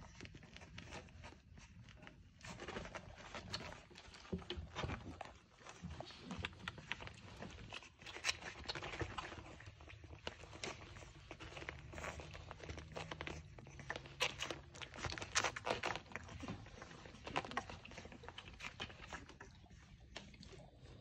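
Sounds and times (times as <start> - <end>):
puppies suckling: 0.0 - 21.0
puppy pads crinkling: 0.0 - 21.0.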